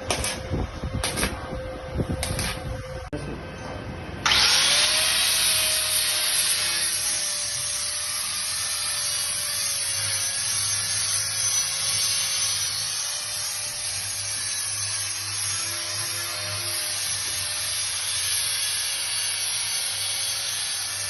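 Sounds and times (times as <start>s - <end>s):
power tool whining on metal: 0.0s - 21.0s.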